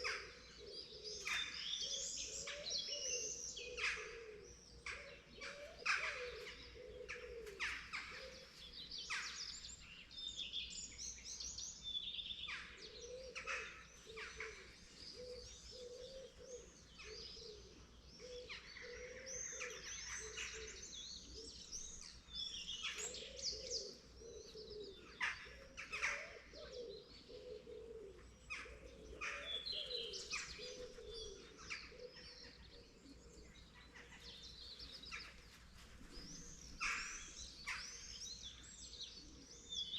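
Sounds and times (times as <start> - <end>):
dove cooing: 0.0 - 9.3, 12.5 - 37.8
songbirds chirping and twittering: 0.0 - 39.9.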